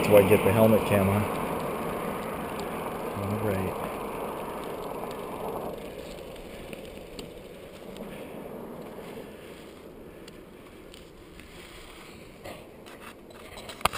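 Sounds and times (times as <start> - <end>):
bicycle tyres humming on pavement: 0.0 - 13.9
faint clicks: 0.1 - 11.5.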